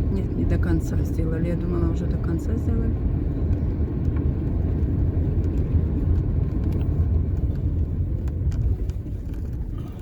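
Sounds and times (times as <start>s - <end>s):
car road rumble and engine: 0.0s - 10.0s.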